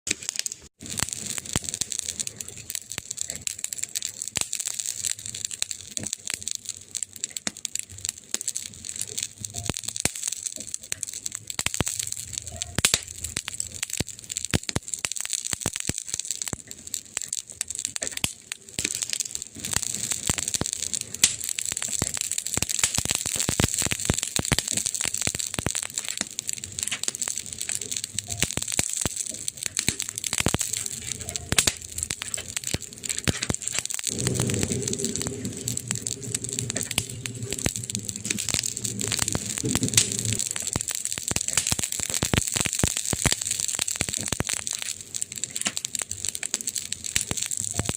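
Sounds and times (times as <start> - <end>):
fire pops and snaps: 0.1 - 47.9
wood fire crackling: 0.1 - 47.9.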